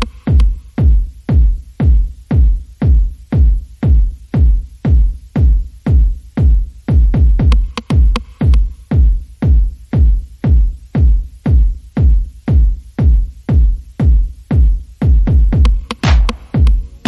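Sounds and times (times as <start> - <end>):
electronic dance music: 0.0 - 17.0
heavy kick drum beat: 0.0 - 17.0.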